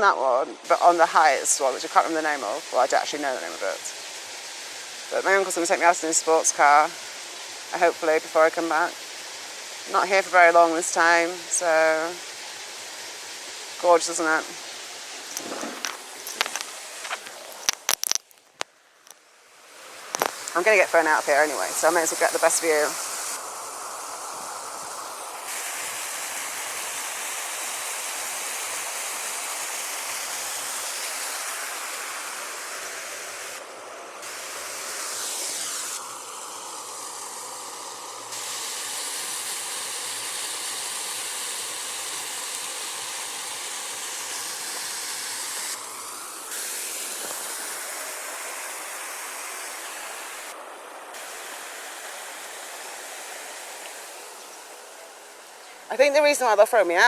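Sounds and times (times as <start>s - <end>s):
water rushing over waterfalls: 0.0s - 57.0s.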